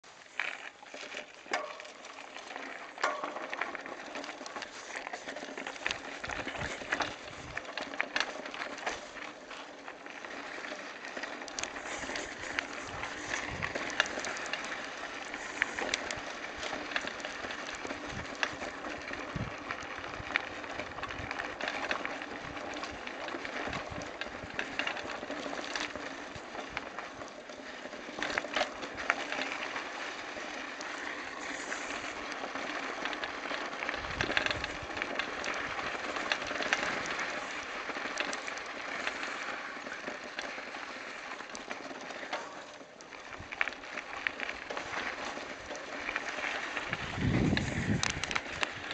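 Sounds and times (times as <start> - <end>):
bike tyres crunching on gravel: 0.0 - 48.9
bike clicks and rattles: 0.1 - 48.9.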